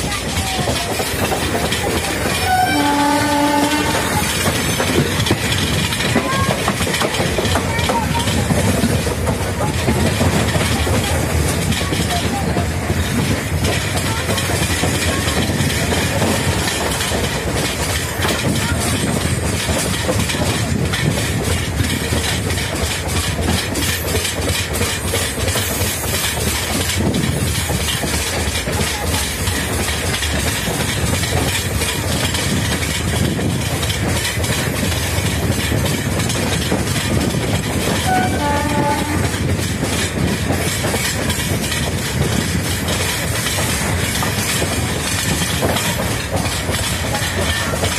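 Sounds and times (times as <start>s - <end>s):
train wheels clickety-clack: 0.0s - 47.9s.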